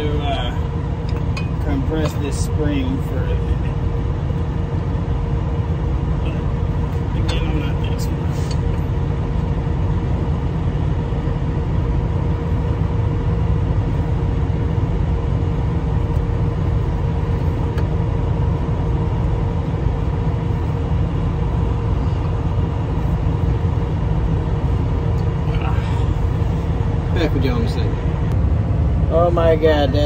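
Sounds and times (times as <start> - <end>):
faint hum: 0.0 - 30.0
machinery rumbling: 0.0 - 30.0.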